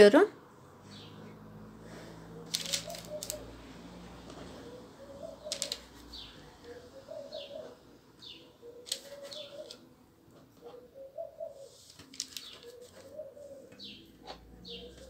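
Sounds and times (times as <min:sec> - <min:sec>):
dove cooing: 0:01.9 - 0:15.0.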